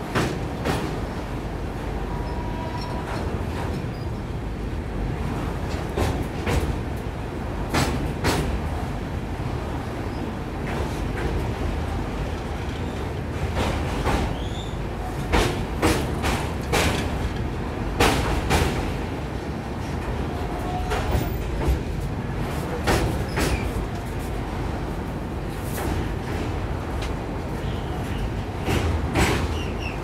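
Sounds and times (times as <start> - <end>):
train coach rumbling: 0.0 - 30.0.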